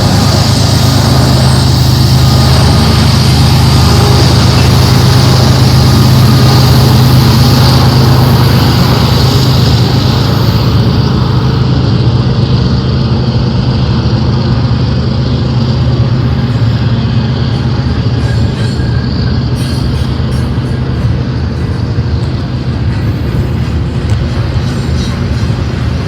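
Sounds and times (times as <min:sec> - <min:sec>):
locomotive engine drone: 0:00.0 - 0:26.0
train hiss: 0:00.0 - 0:26.0
train rumble: 0:00.0 - 0:26.0.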